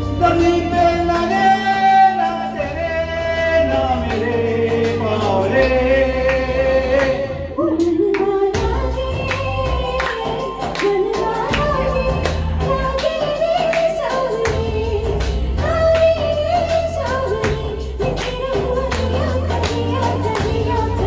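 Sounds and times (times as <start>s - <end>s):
instrumental backing with bass: 0.0s - 21.0s.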